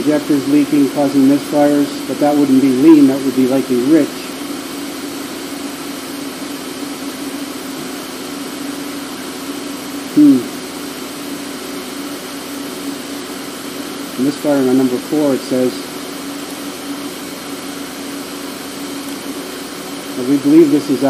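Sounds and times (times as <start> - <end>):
car engine idling with misfire: 0.0 - 21.0.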